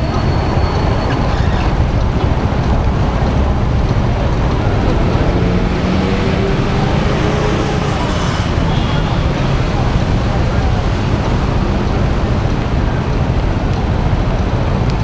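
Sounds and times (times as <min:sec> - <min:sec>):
road traffic noise: 0:00.0 - 0:15.0
vehicle engine drone: 0:00.0 - 0:15.0.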